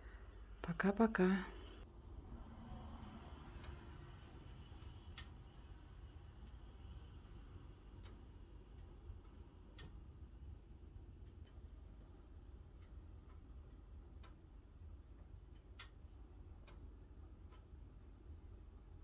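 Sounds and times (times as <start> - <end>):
low steady rumble: 0.0 - 19.0
wood fire crackling: 1.6 - 19.0.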